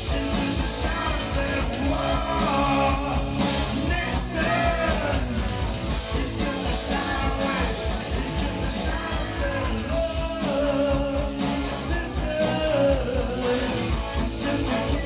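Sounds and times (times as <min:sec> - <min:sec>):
drums: 0:00.0 - 0:15.0
electric guitars: 0:00.0 - 0:15.0.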